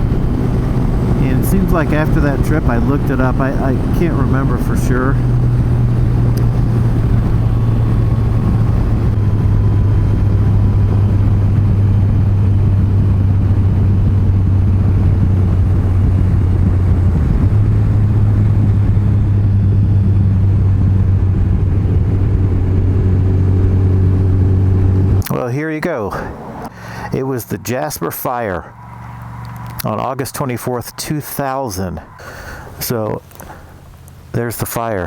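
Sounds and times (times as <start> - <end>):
motorcycle engine cruising: 0.0 - 34.8
road and wind noise: 0.0 - 35.0.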